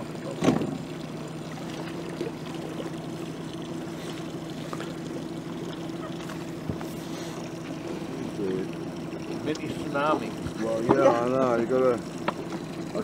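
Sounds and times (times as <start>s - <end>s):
faint water wash: 0.0s - 13.0s
outboard motor running: 0.0s - 13.0s.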